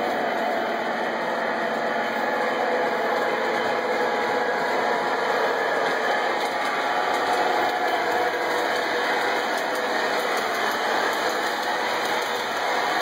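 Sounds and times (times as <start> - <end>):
model train rumbling on track: 0.0 - 13.0.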